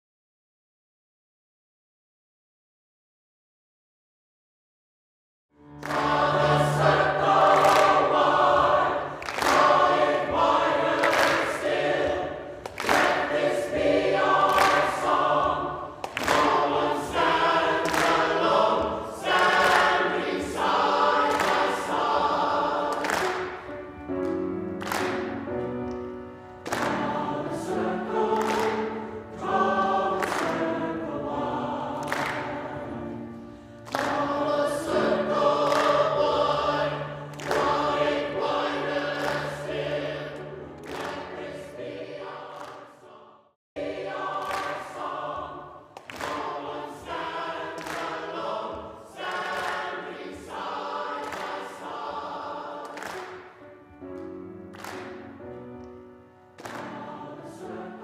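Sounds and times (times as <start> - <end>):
choir singing: 5.6 - 58.0.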